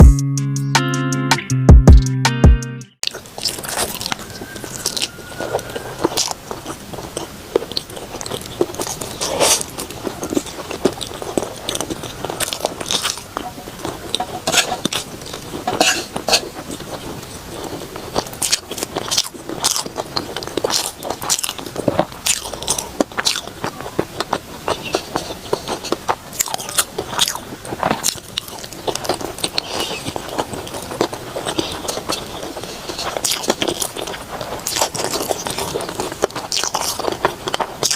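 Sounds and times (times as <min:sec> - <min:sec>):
person biting and chewing food: 0:03.0 - 0:37.9.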